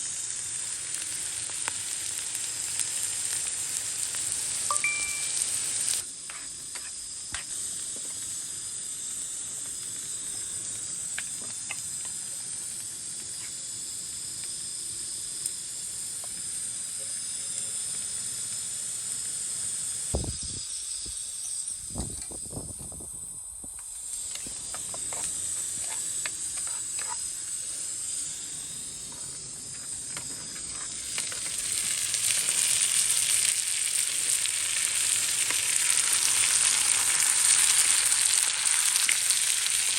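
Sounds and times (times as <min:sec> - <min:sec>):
oil sizzling in a pan: 0:00.0 - 0:39.9.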